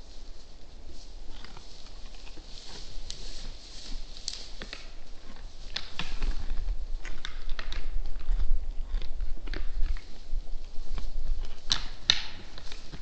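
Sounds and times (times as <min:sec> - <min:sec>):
deer crunching feed: 0:00.1 - 0:13.0.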